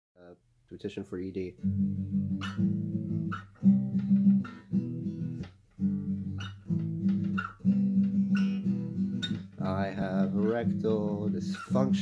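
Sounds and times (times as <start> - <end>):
acoustic guitar strumming chords: 1.6 - 12.0.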